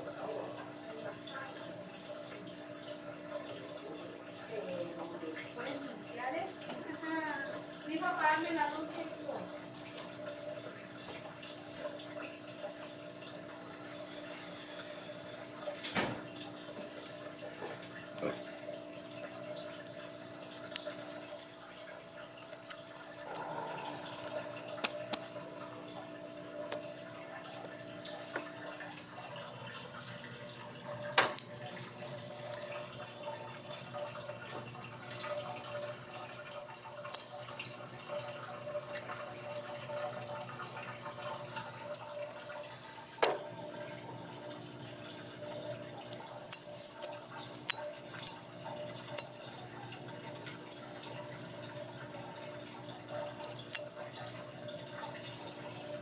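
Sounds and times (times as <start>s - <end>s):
water dripping and trickling: 0.0s - 56.0s.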